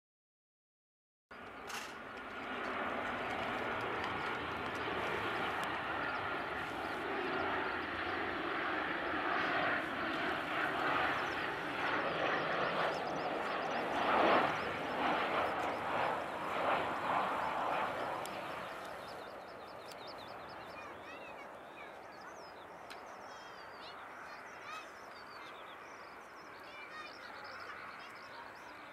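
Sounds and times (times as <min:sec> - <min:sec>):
jet airliner engines: 0:01.3 - 0:28.9.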